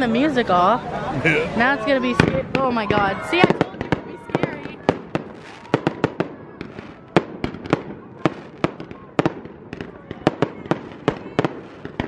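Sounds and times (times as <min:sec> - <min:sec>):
fireworks bursting with sharp bangs: 0:01.6 - 0:12.0.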